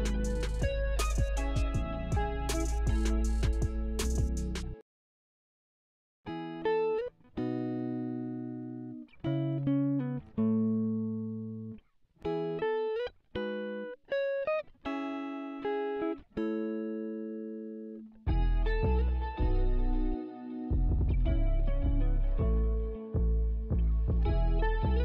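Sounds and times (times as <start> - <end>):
clean guitar picking chords: 0.0 - 4.8, 6.3 - 25.0.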